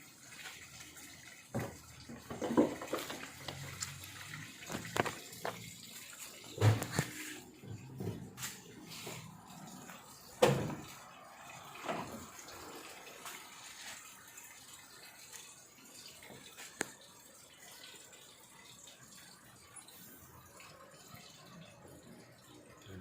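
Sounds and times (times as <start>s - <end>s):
faint water splashing: 0.0s - 23.0s.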